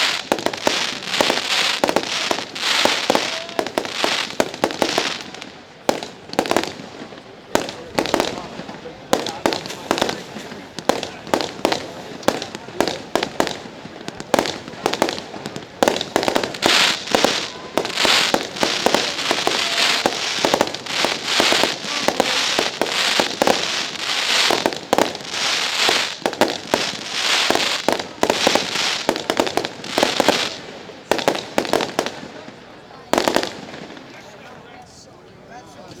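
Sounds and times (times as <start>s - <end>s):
fireworks banging: 0.0s - 34.2s
fireworks crackling and hissing: 0.0s - 34.4s.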